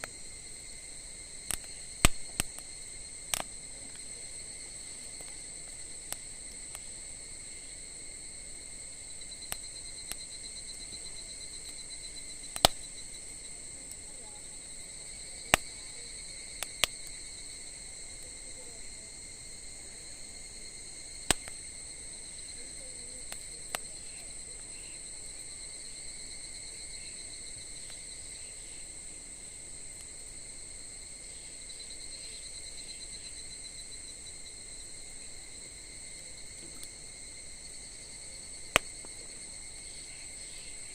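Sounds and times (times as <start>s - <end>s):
campfire crackling pops: 0.0s - 40.9s
insect trill: 0.0s - 40.9s.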